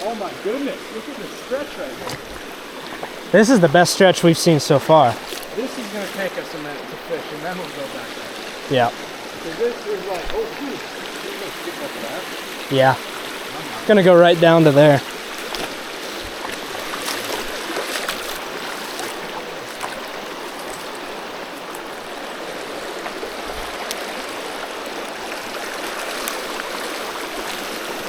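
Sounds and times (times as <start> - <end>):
water flowing over rocks: 0.0 - 28.0.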